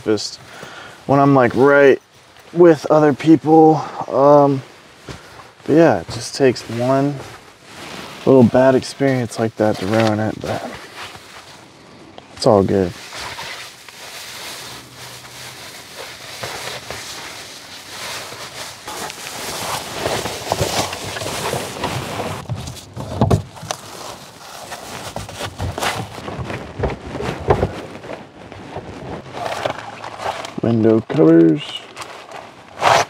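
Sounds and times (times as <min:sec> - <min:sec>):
rustling and handling noises: 0:00.0 - 0:33.0.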